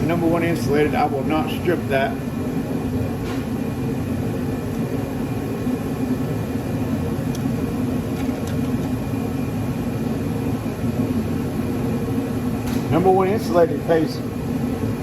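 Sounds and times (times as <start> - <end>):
heater fan drone: 0.0 - 15.0.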